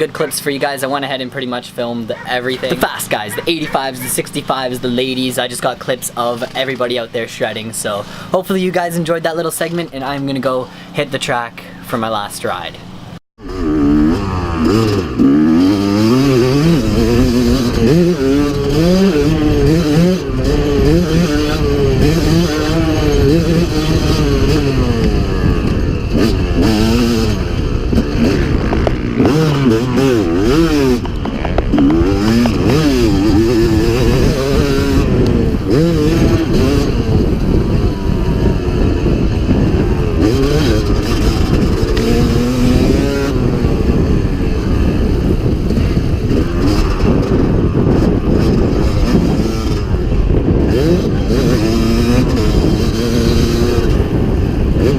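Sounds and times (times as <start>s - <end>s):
dirt bike engine revving: 0.0s - 9.0s, 12.8s - 54.9s.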